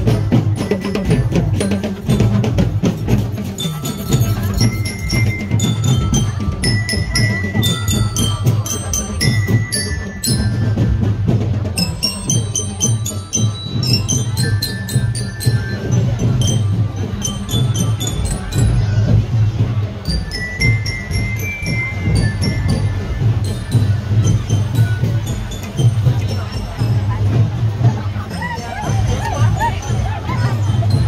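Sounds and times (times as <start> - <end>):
bell lyre melody: 0.0 - 31.0
marching drums beating: 0.0 - 31.0.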